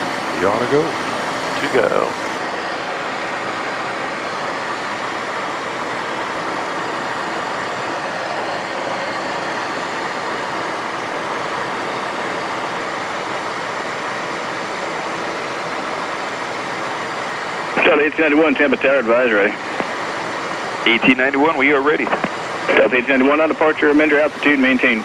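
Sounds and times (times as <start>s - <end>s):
airflow in cockpit: 0.0s - 25.0s
jet engine noise: 0.0s - 25.0s.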